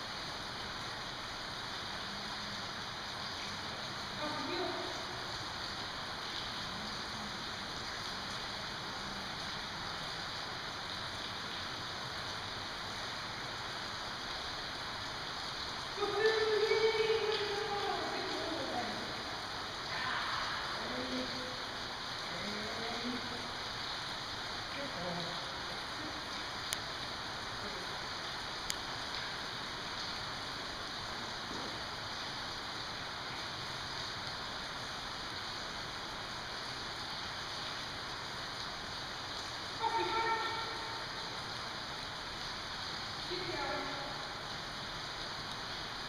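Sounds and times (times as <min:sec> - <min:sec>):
rain hissing on roof: 0:00.0 - 0:46.0.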